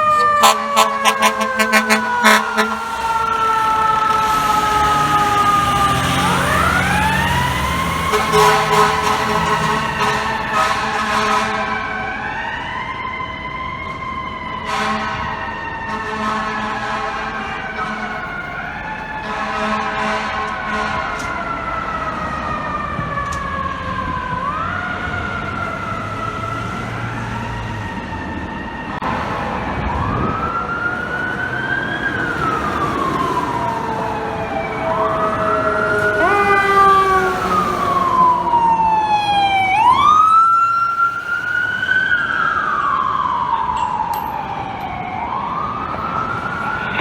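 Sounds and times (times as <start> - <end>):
fire truck siren wailing: 0.0 - 47.0
second siren: 0.0 - 47.0.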